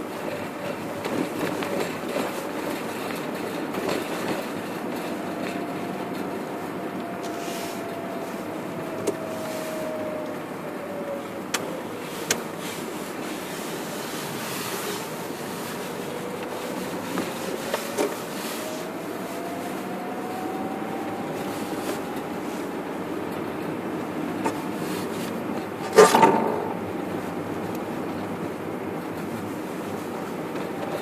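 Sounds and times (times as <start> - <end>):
car engine: 0.0 - 31.0
tyre and road noise: 0.0 - 31.0.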